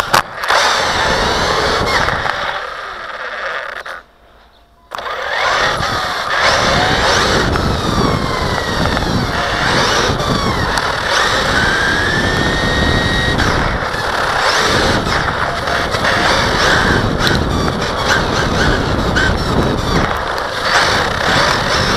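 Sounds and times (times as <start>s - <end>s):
high motor whine: 0.0s - 21.9s
tyres and chassis rumbling: 0.0s - 21.9s.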